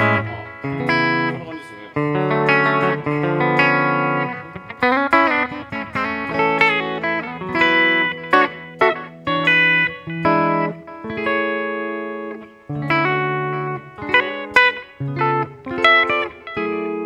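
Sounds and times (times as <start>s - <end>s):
electric guitar chords and bends: 0.0s - 17.0s.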